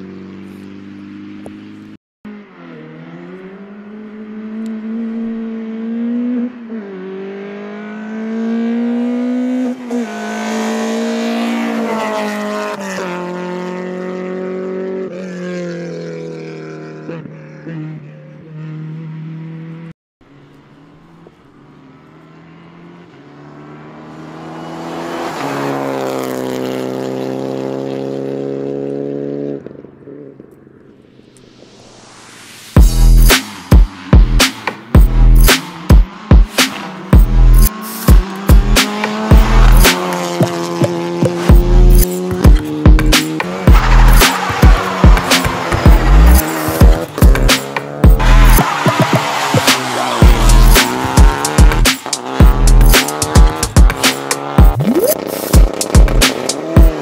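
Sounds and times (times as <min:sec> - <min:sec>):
rally car passing: 0:00.0 - 0:57.0
rally car accelerating through gears: 0:00.1 - 0:30.6, 0:32.9 - 0:57.0.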